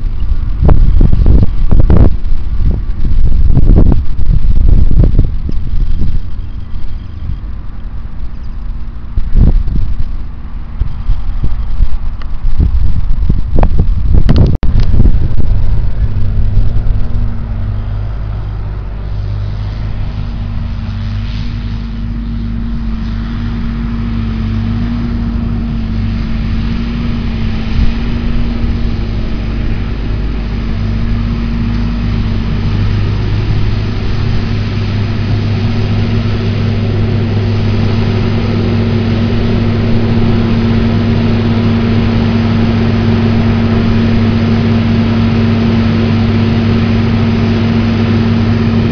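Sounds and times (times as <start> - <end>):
tractor diesel engine running: 0.0 - 48.9
wind buffeting microphone: 0.0 - 48.9.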